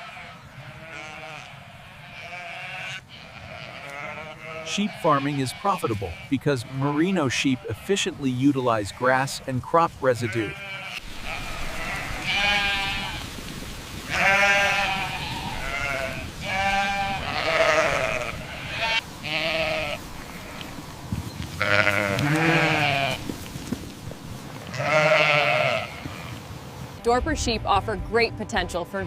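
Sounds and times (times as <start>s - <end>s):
sheep bleating: 0.0s - 13.2s, 14.1s - 20.8s, 21.6s - 23.3s, 24.6s - 26.4s.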